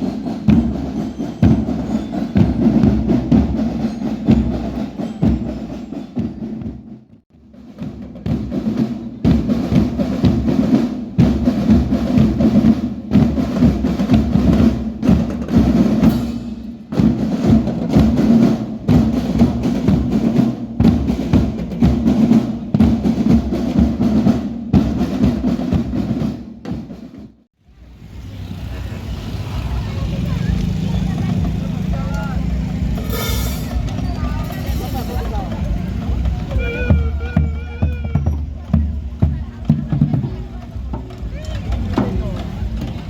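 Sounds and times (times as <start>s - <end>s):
marching drum band: 0.0s - 43.0s.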